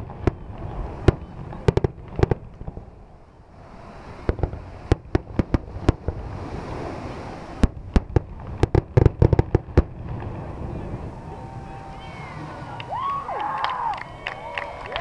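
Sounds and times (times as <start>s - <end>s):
fireworks bangs: 0.0s - 13.2s.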